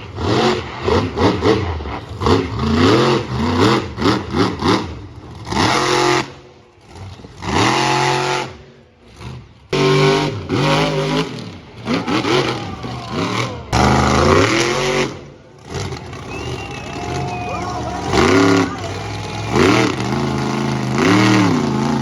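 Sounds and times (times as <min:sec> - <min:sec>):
monster truck engines revving: 0:00.0 - 0:22.0.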